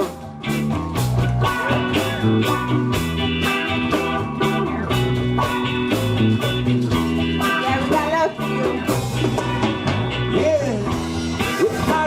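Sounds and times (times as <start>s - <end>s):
live band music: 0.0s - 12.0s
steady drum beat: 0.0s - 12.0s.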